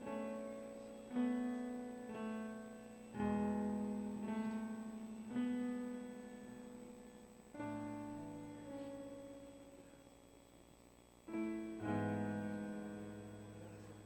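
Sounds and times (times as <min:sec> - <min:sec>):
soft slow piano chords: 0:00.0 - 0:14.0.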